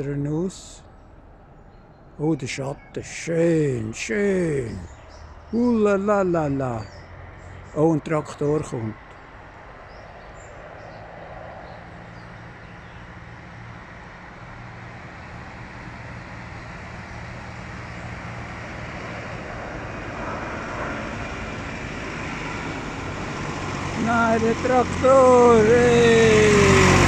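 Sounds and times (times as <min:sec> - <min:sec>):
tractor engine drone: 0:00.0 - 0:11.0, 0:11.6 - 0:27.0.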